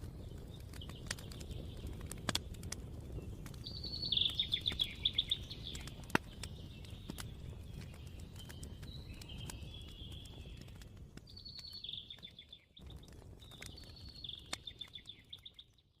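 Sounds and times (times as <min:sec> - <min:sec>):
songbird singing: 0:00.0 - 0:16.0
wood fire crackling: 0:00.0 - 0:16.0.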